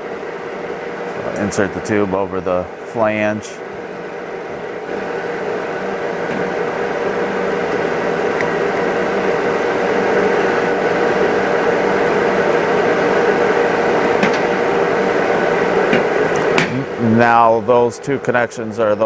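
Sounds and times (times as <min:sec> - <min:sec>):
machinery hum with tone: 0:00.0 - 0:19.0.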